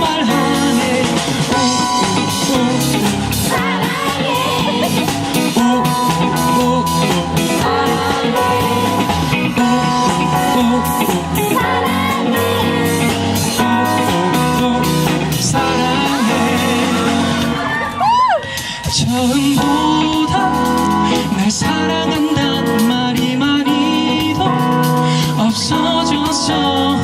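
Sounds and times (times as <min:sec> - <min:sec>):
live pop ballad band music: 0:00.0 - 0:27.0.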